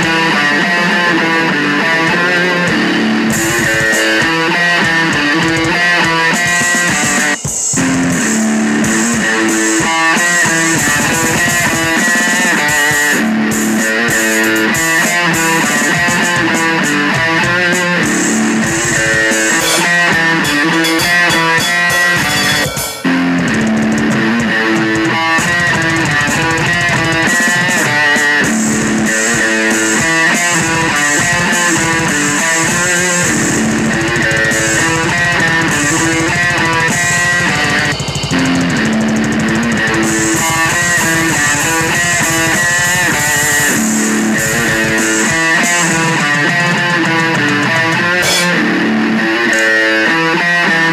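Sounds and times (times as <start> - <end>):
rock song with electric guitar: 0.0 - 50.9.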